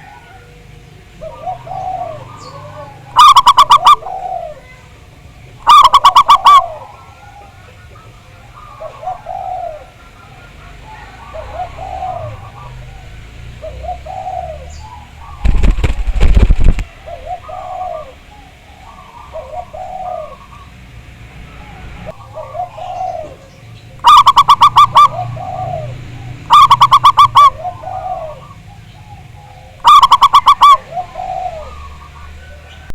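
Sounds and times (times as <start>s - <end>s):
loud fast-rolling dove coos: 0.0s - 4.8s, 5.6s - 20.7s, 21.6s - 32.9s
doves cooing softly: 0.0s - 32.9s.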